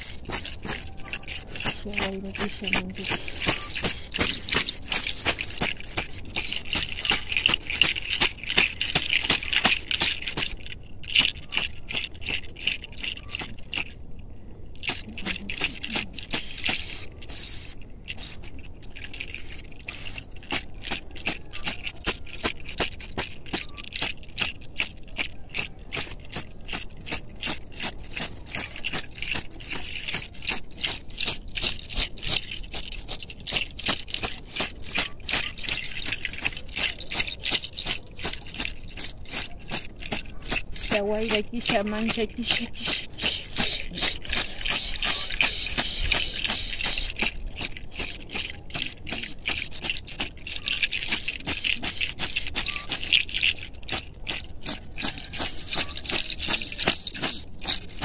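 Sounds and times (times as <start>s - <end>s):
leafy rustling strokes: 0.0s - 58.0s.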